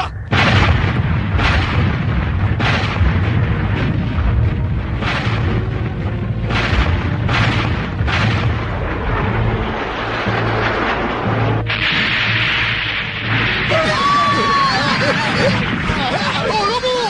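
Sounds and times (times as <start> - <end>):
cartoon explosions: 0.0 - 17.0
constant low rumble: 0.0 - 17.0.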